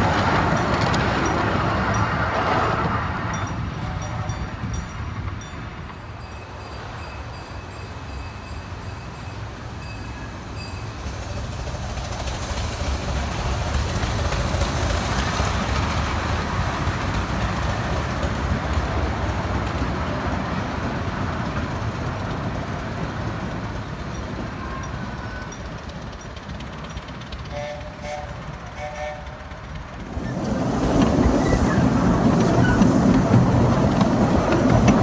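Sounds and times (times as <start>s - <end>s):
miniature steam train rumbling: 0.0s - 35.0s.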